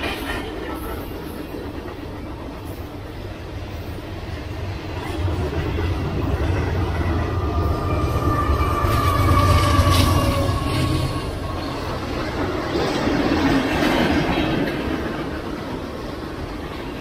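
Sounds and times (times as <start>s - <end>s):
diesel locomotive engine: 0.0s - 17.0s
freight cars rolling on rails: 0.0s - 17.0s.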